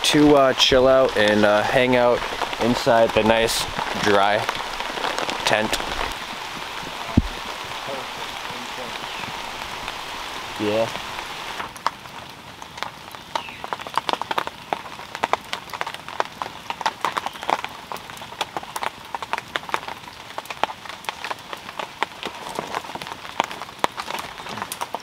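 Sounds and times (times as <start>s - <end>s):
crackling campfire: 0.0s - 25.0s
raindrops ticking and popping: 0.0s - 25.0s
steady rain hiss: 0.0s - 25.0s.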